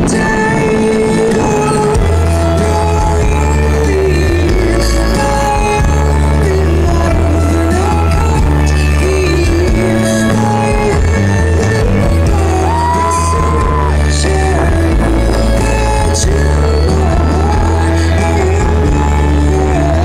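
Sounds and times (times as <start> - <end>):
folk-rock band playing loud: 0.0 - 20.0.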